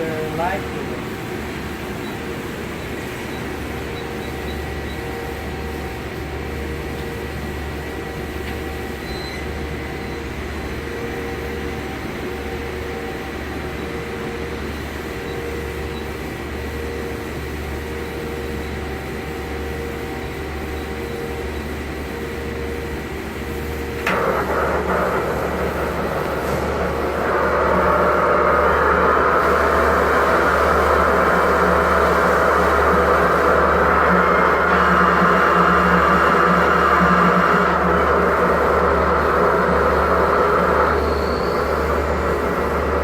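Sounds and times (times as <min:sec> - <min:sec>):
lathe humming and whining: 0:00.0 - 0:43.0.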